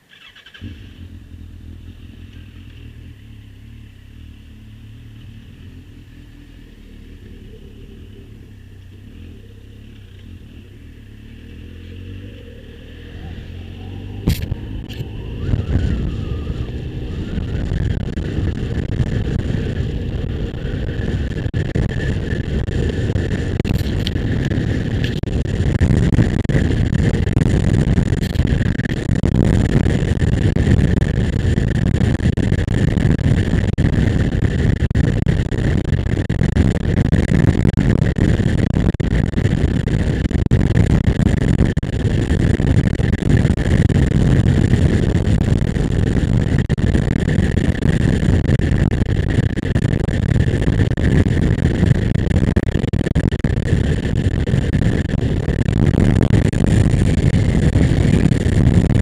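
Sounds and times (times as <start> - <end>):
motorcycle engine rumble: 0.0 - 59.0
wind rush: 0.6 - 59.0.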